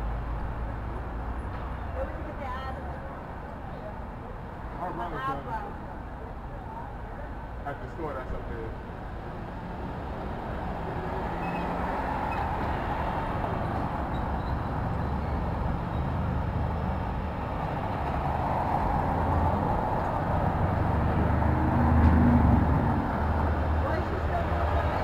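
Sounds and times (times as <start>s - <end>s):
engine hum of passing vehicles: 0.0s - 25.0s.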